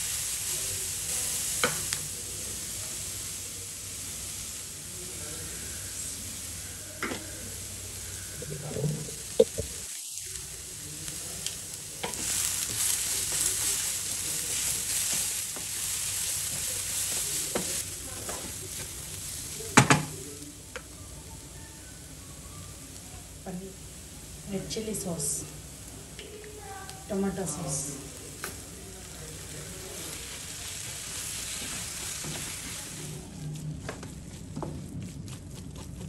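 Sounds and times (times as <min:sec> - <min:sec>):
vegetables sizzling in a pan: 0:00.0 - 0:33.9.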